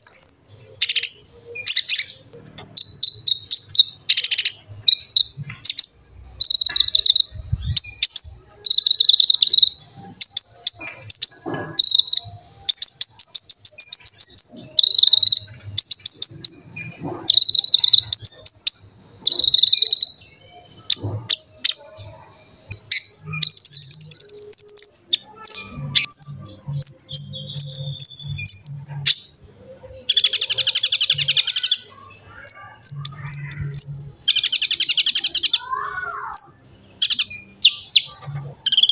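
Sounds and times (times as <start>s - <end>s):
sunbird singing: 0.0s - 38.9s.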